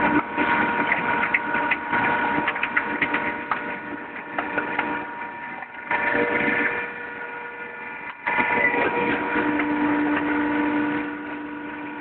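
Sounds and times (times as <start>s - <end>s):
hydraulic press motor humming: 0.0s - 12.0s.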